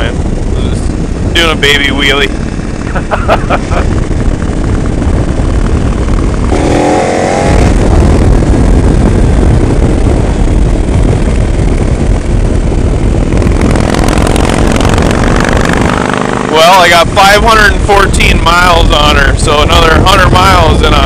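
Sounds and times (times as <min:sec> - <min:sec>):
motorcycle engine droning and revving: 0:00.0 - 0:21.0
wind rushing over helmet microphone: 0:00.0 - 0:21.0.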